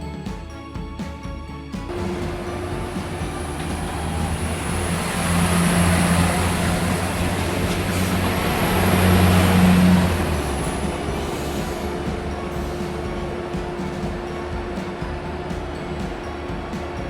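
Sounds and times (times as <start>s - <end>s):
locomotive engine drone: 1.5s - 17.0s
thin high whine: 1.9s - 17.0s.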